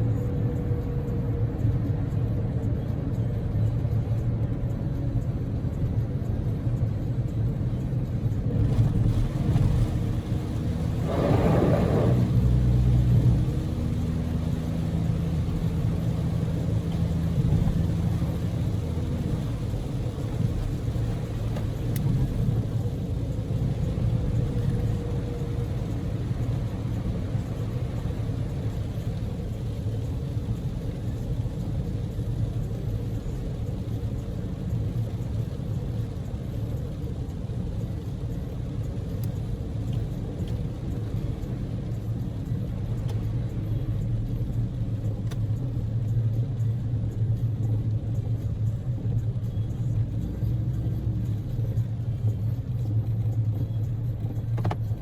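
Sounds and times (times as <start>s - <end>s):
car engine hum: 0.0s - 55.0s
tyres rumbling on road: 0.0s - 55.0s.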